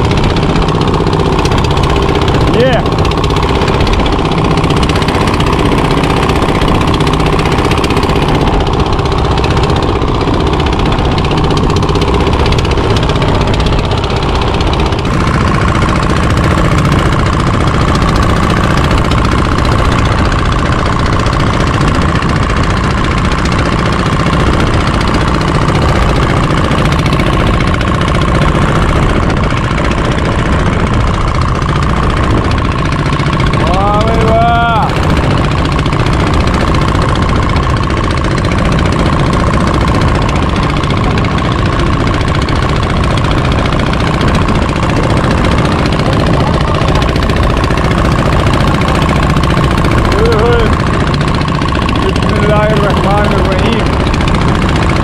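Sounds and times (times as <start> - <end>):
boat diesel engine running: 0.0 - 55.0
steady whine: 0.0 - 55.0.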